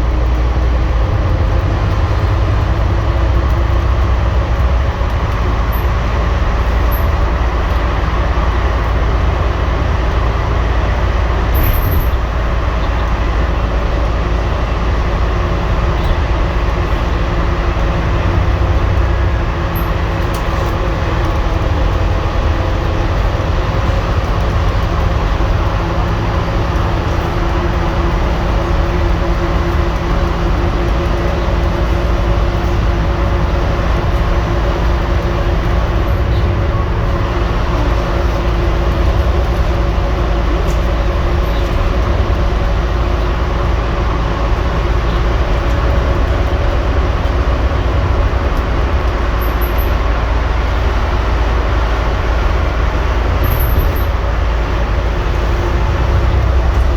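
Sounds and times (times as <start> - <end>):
bus diesel engine rumbling: 0.0 - 56.9.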